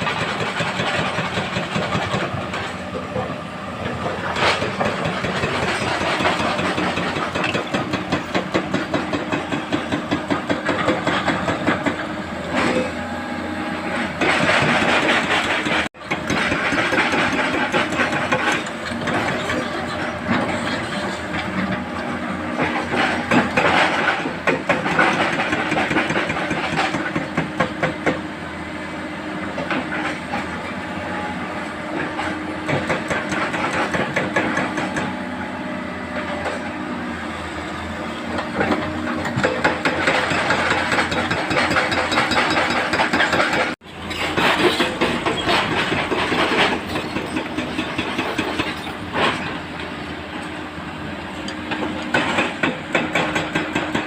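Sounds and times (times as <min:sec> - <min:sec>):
diesel engines under load: 0:00.0 - 0:54.0.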